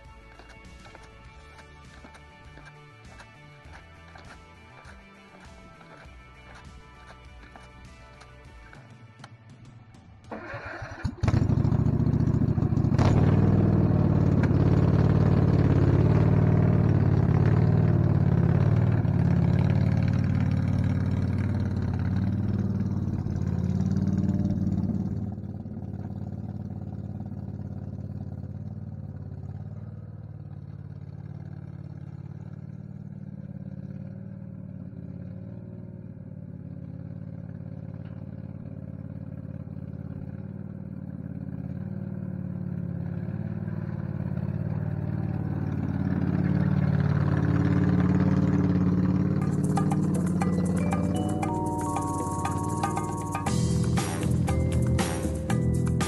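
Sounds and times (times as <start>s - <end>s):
lawn tractor engine running: 0.0s - 9.3s, 10.3s - 33.0s, 36.4s - 56.0s.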